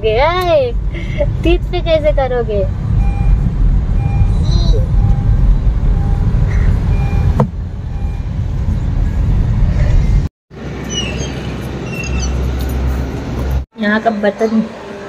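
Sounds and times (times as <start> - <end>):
wind and road rumble in car: 0.0 - 13.6
outdoor rumble: 0.0 - 13.7.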